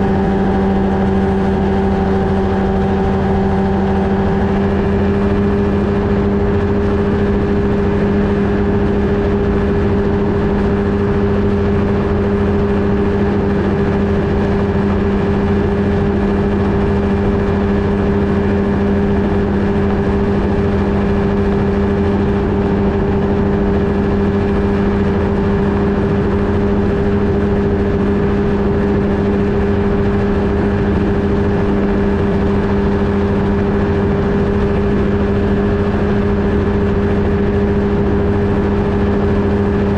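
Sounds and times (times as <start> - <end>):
ultralight engine and propeller drone: 0.0 - 39.9.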